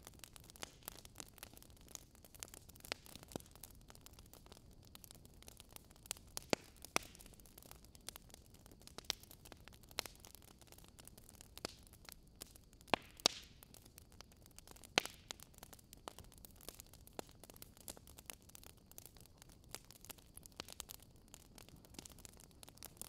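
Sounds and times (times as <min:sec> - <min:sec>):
faint steady hiss: 0:00.0 - 0:23.0
wood fire crackling and popping: 0:00.0 - 0:23.0.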